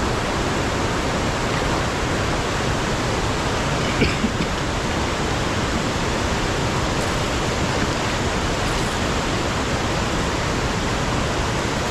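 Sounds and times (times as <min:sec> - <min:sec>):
river water pouring over dam: 0:00.0 - 0:11.9.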